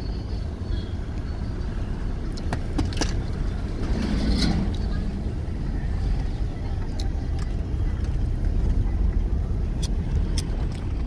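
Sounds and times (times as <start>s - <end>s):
car engine tyres and wind rumble: 0.0s - 11.0s.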